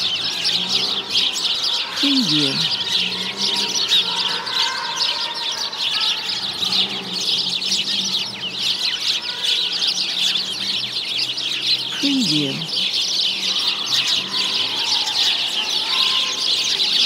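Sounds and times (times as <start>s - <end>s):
small birds chattering: 0.0s - 17.0s.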